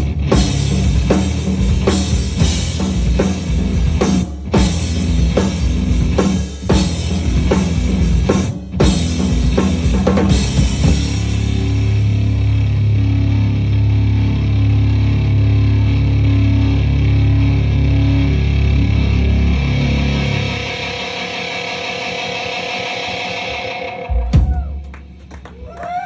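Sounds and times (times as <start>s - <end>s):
distorted electric guitar: 0.0s - 25.2s
live rock band: 0.0s - 26.0s.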